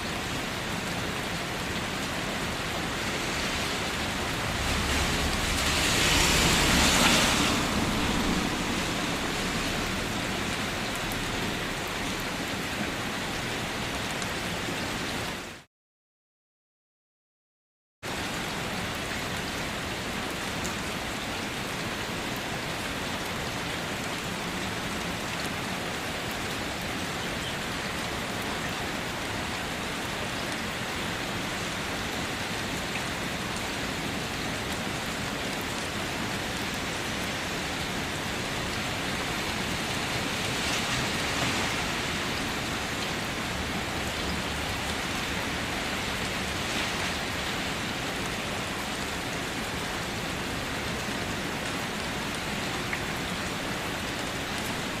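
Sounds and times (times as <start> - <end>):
steady rain falling: 0.0 - 15.7, 18.1 - 55.0.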